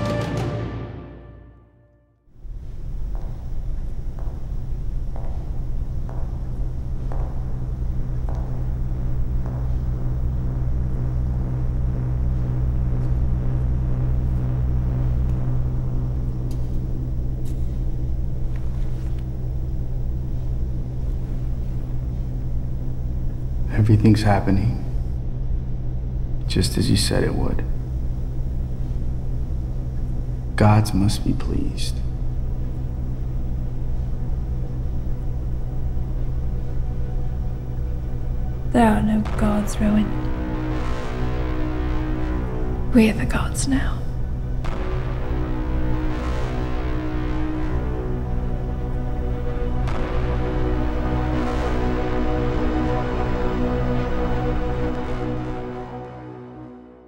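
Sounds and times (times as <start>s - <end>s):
low rumbling drone: 0.0s - 57.0s.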